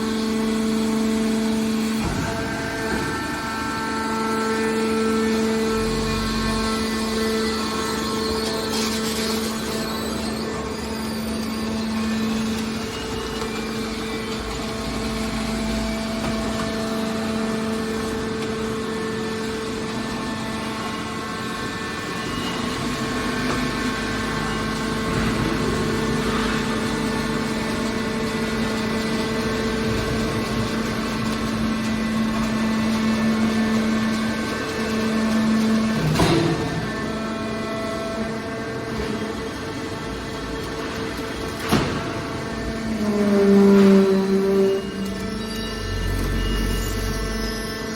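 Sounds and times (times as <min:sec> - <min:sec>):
hydraulic power unit hum: 0:00.0 - 0:47.9.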